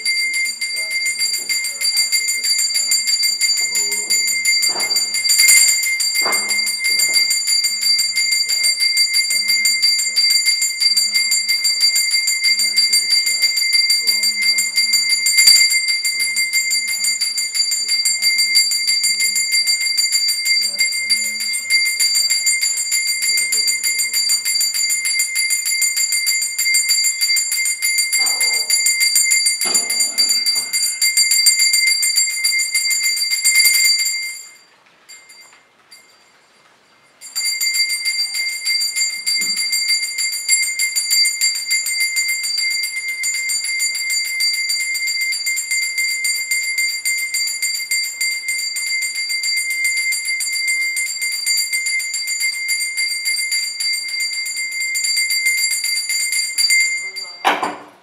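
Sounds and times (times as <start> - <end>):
hand bell ringing rapidly: 0.0 - 36.3, 37.2 - 58.0.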